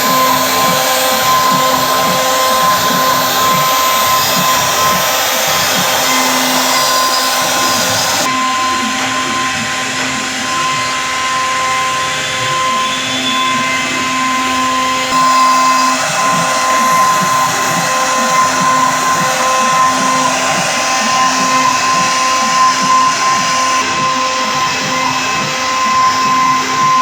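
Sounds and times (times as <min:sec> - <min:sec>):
wood router whine and cutting hiss: 0:00.0 - 0:27.0.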